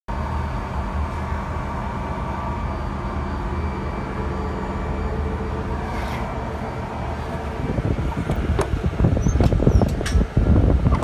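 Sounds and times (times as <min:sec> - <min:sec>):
aircraft machinery rumbling: 0:00.1 - 0:11.0
faint constant whines: 0:00.1 - 0:11.0.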